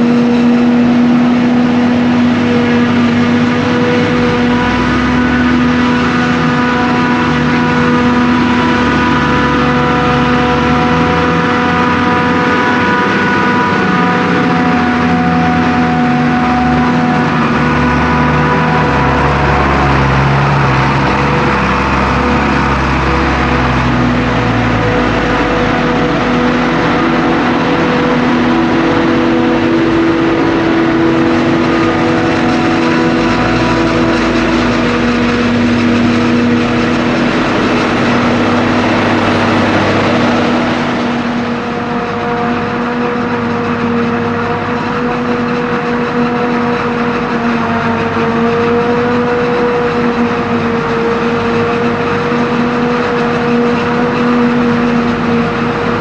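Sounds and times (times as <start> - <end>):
heavy farm machinery droning: 0.0 - 56.0.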